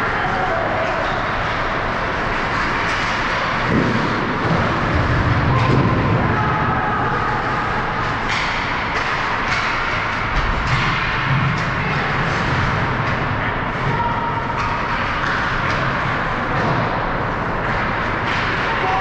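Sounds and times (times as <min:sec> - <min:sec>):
hockey rink ambience: 0:00.0 - 0:19.0.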